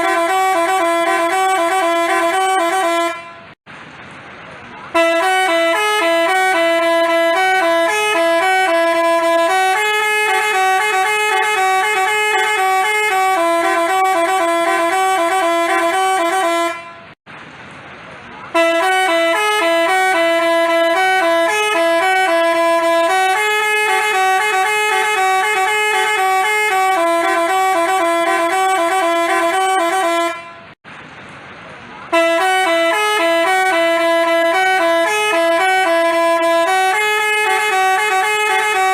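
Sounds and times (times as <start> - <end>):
bus horn melody: 0.0 - 3.6, 4.9 - 17.2, 18.5 - 30.8, 32.1 - 38.9.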